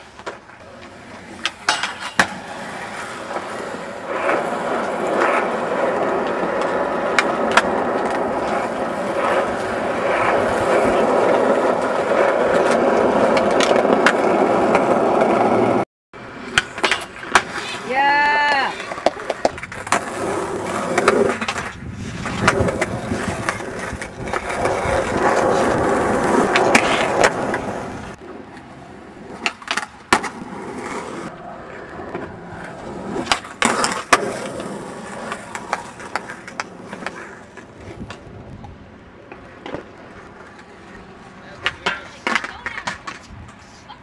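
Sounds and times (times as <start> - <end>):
skateboard clacking and landing: 0.0 - 43.6
skateboard wheels rolling on pavement: 0.0 - 44.0.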